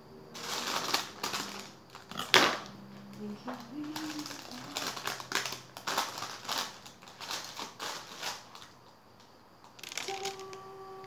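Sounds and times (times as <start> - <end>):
baking paper crinkling: 0.3 - 8.9, 9.6 - 10.7.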